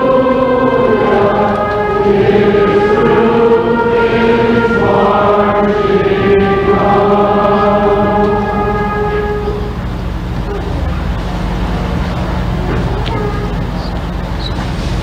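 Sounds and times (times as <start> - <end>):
choir singing long held notes: 0.0 - 13.8.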